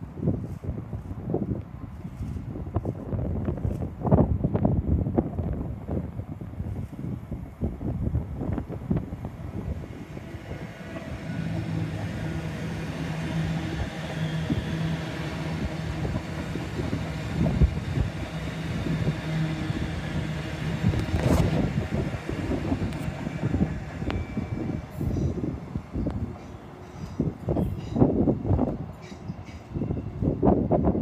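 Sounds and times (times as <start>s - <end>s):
electric train hum: 0.0s - 31.0s
wind buffeting microphone: 0.0s - 31.0s
wheel on rail rumble: 0.4s - 31.0s.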